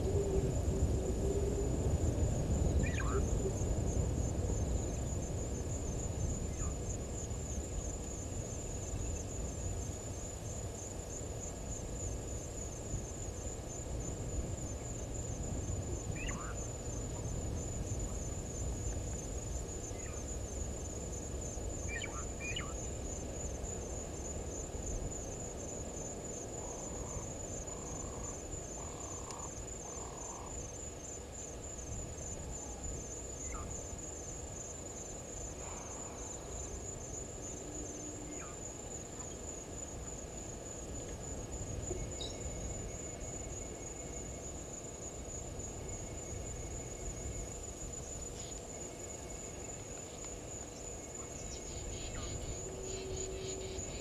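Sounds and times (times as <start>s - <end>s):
low outdoor rumble: 0.0s - 54.0s
pulsing insect trill: 0.0s - 54.0s.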